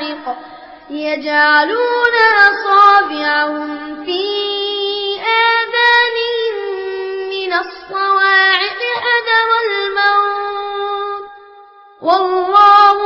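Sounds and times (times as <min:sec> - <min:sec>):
child chanting melodically: 0:00.0 - 0:11.3, 0:12.0 - 0:13.0.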